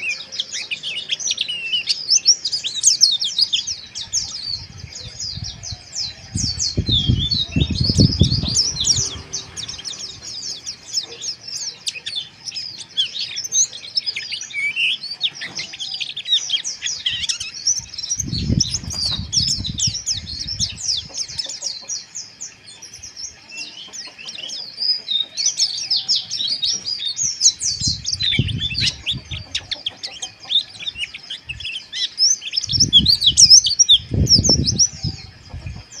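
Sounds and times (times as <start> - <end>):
birds twittering in high chirps: 0.0 - 36.0.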